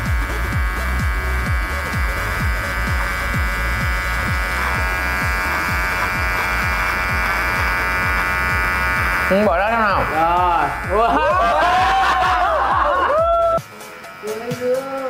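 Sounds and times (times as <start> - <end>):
background music with deep bass: 0.0 - 15.0
electric hair clipper buzzing: 0.0 - 15.0.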